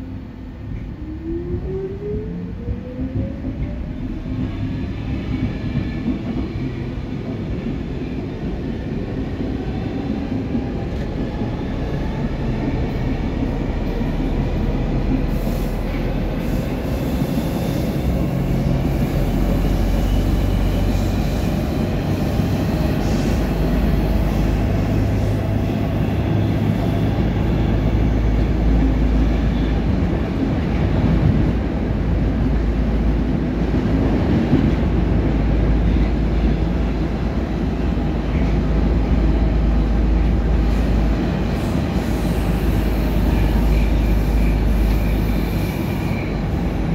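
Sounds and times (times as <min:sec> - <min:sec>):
metro wheels rumbling on rail: 0:00.0 - 0:46.9.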